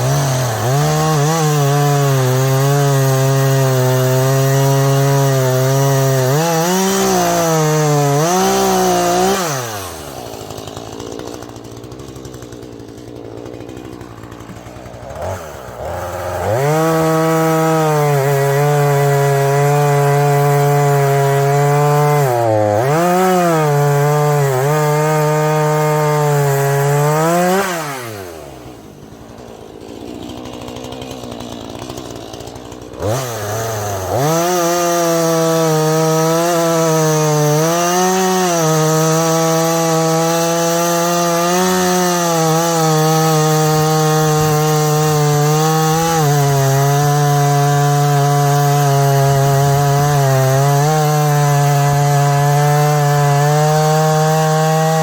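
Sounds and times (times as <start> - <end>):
chainsaw idling and cutting wood: 0.0 - 55.0.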